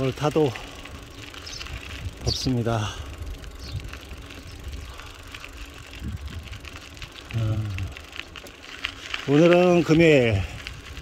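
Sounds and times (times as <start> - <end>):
bicycle tyre noise: 0.0 - 11.0
wind rumble on microphone: 0.9 - 8.4, 9.1 - 11.0.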